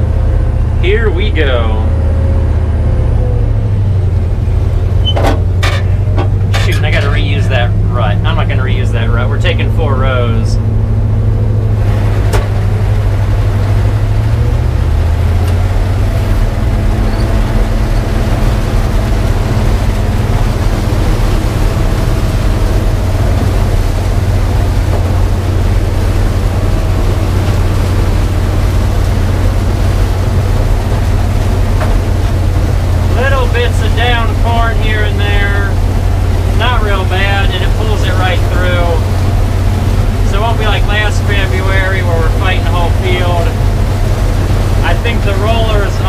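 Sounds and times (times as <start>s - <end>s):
combine engine under load: 0.0s - 46.0s
threshing machinery: 4.2s - 10.4s, 11.5s - 46.0s.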